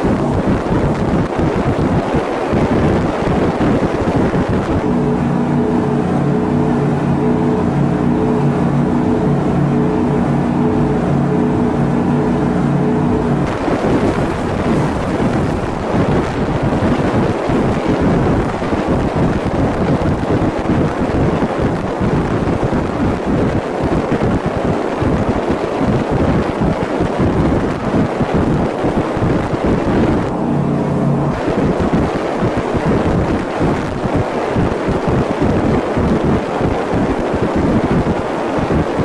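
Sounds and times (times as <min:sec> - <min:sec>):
boat engine humming: 0:00.0 - 0:39.0
wind buffeting microphone: 0:00.0 - 0:39.0.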